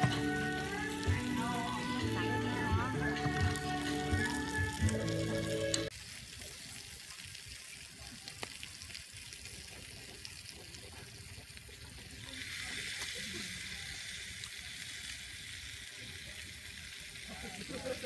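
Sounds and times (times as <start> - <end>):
snails sizzling on hot stone: 0.0 - 18.0.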